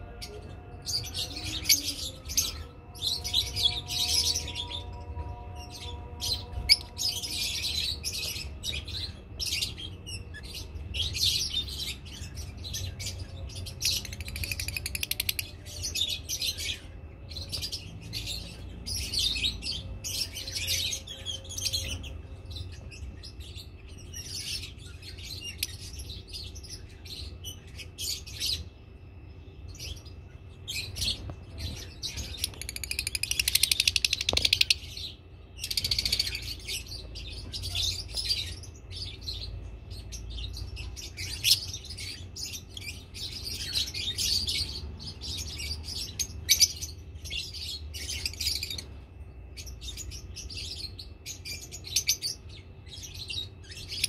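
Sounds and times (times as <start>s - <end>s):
lovebirds chirping: 0.0s - 54.0s
low steady hum: 0.0s - 54.0s.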